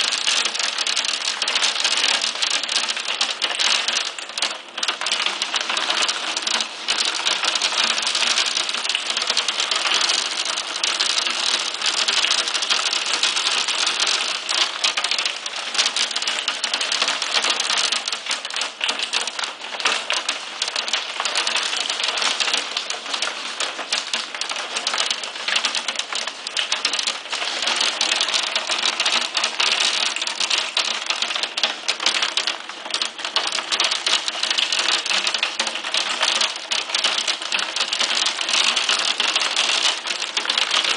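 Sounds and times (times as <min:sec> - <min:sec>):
hailstones pelting down: 0:00.0 - 0:40.9
rain: 0:00.0 - 0:40.9.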